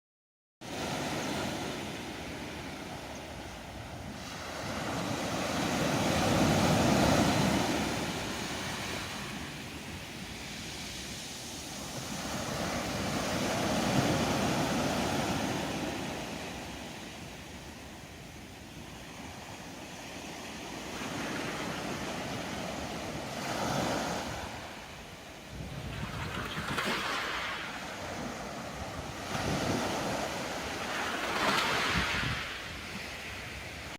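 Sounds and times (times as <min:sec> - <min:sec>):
ocean waves breaking: 0:00.6 - 0:17.4, 0:18.8 - 0:33.9.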